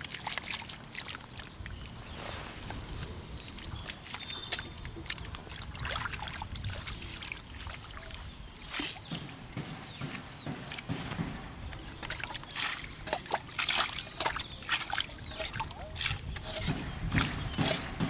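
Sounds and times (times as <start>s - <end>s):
bare feet squelching in muddy water: 0.0s - 18.0s.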